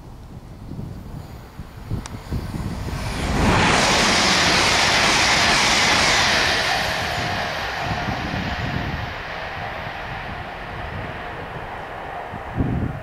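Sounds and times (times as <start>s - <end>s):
train passing at speed: 1.3s - 13.0s.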